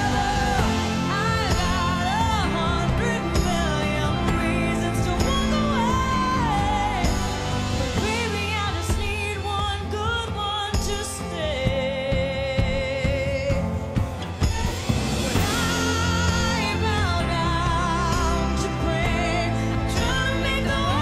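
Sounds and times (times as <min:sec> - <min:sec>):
instrumental backing: 0:00.0 - 0:21.0
woman singing pop ballad: 0:00.0 - 0:21.0.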